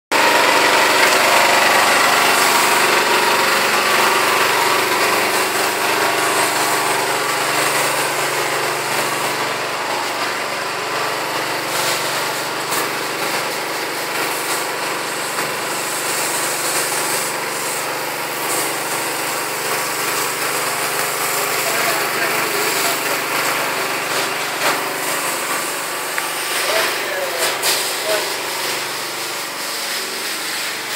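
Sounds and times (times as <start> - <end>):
small engine running: 0.1 - 30.9.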